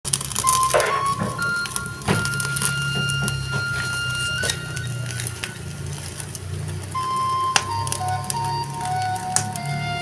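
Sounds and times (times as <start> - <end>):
wood fire crackling: 0.0 - 10.0
simple melody: 0.1 - 10.0.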